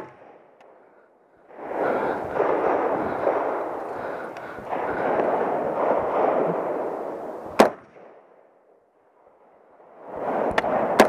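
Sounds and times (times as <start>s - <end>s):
rifle shot: 0.0s - 0.8s, 1.5s - 8.8s, 9.4s - 11.0s
steady rushing noise: 0.0s - 7.6s, 9.2s - 11.0s.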